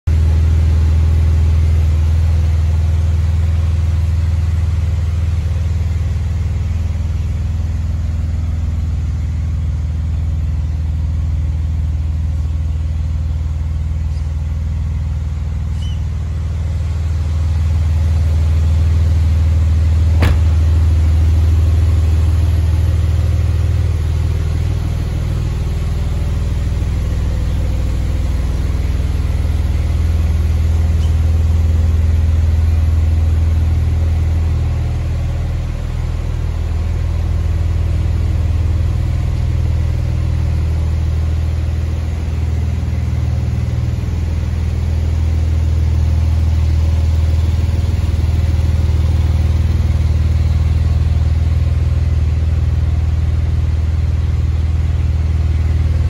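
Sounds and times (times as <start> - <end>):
car engine idling: 0.1 - 56.0.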